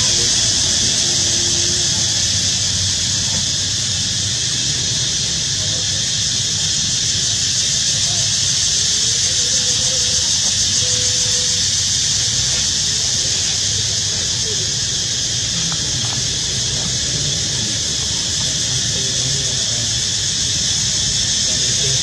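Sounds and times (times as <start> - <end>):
high-pitched hiss: 0.0 - 22.0.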